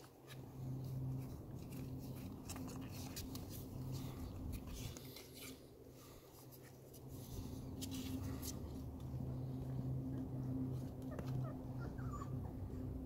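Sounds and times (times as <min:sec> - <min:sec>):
paws scratching on cardboard: 0:00.0 - 0:12.4
steady low hum: 0:00.0 - 0:13.0.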